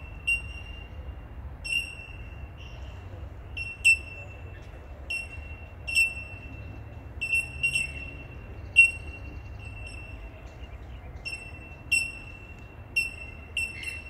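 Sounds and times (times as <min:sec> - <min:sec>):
birds giving bell-like calls: 0:00.0 - 0:14.0.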